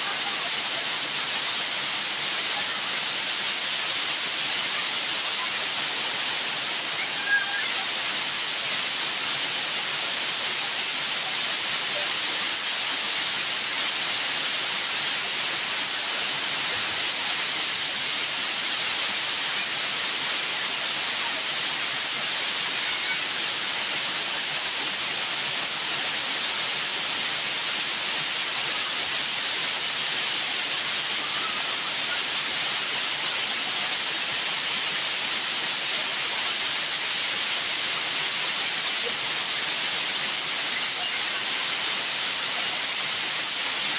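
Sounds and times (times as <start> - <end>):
falling water hiss: 0.0 - 43.9.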